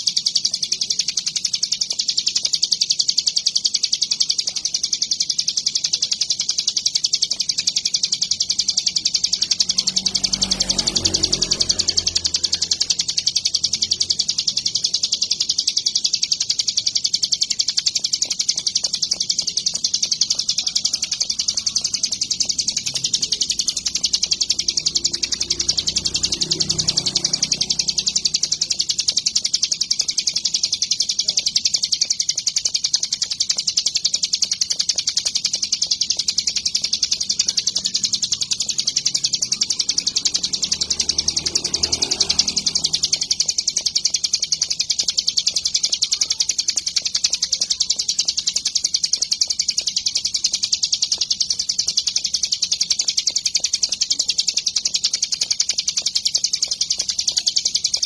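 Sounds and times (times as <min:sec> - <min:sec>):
bird rapid high trill: 0:00.0 - 0:58.0.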